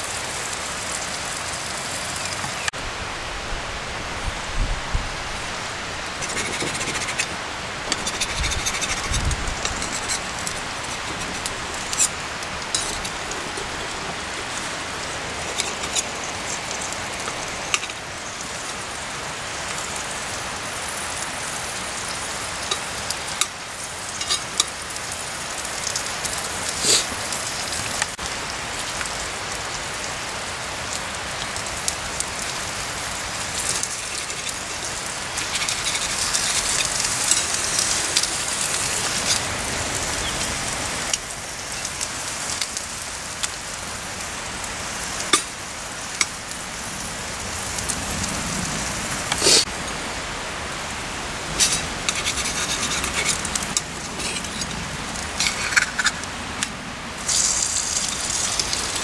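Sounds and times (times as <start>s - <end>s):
eggs and sausages sizzling: 0.0s - 2.8s, 5.3s - 28.3s, 30.8s - 49.8s, 51.4s - 59.0s.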